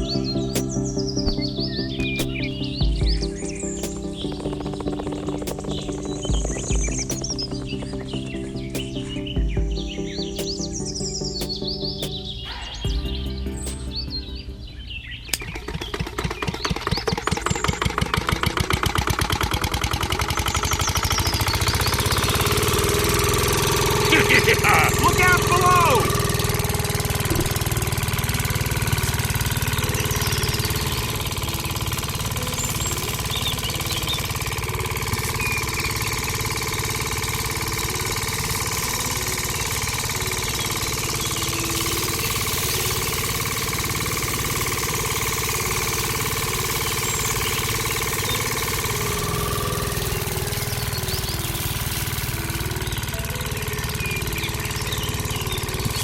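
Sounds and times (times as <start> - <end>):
engine running with knocking beat: 0.0 - 56.0.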